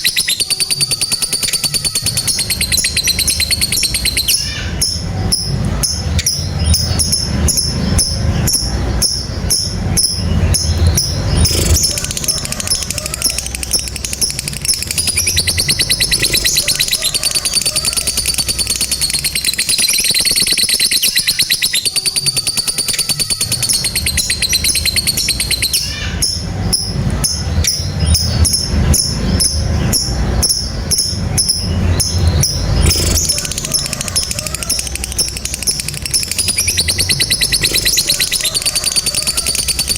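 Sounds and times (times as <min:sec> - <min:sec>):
lovebird chips and trill: 0:00.0 - 0:39.9.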